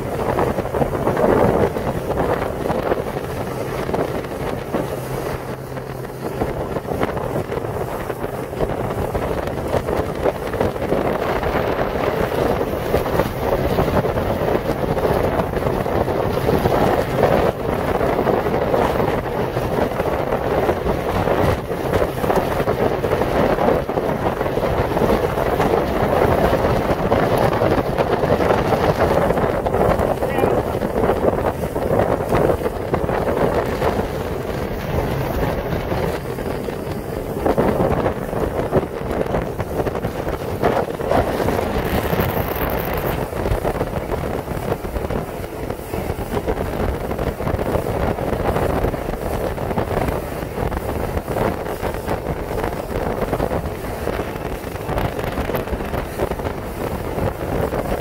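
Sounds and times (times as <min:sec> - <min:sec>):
boat engine drone: 0:00.0 - 0:58.0
water rushing past hull: 0:00.0 - 0:58.0
wind buffeting the microphone: 0:00.0 - 0:58.0.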